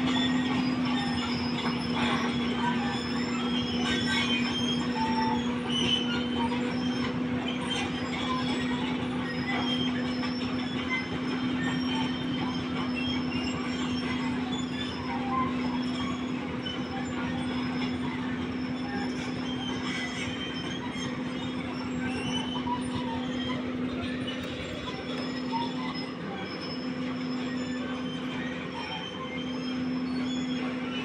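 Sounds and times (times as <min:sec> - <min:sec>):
excavator engine humming: 0:00.0 - 0:31.0
undercarriage squeaks and clicks: 0:00.0 - 0:31.0.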